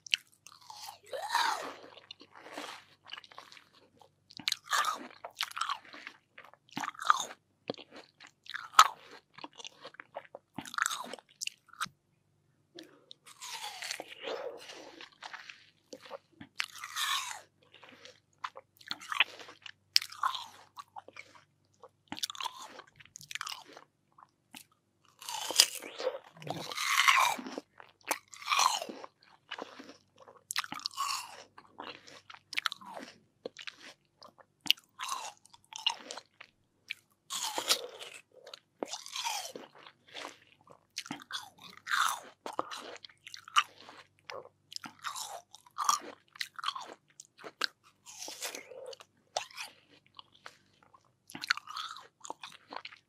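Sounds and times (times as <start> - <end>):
crunchy watermelon chewing: 0.0 - 11.9, 12.8 - 53.0.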